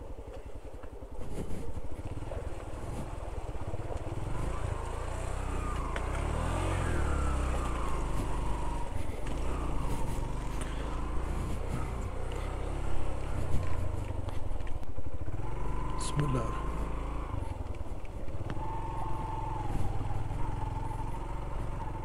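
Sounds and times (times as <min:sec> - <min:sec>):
heavy motorcycle engine running: 0:00.0 - 0:22.0.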